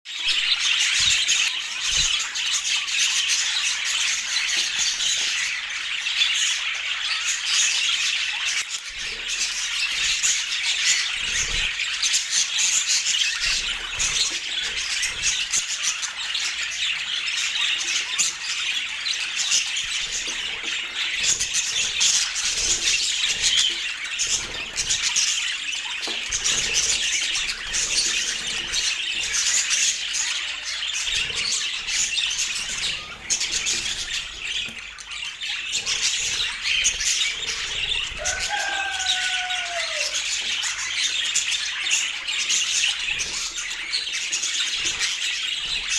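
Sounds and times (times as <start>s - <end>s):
budgerigars chattering: 0.2s - 45.9s.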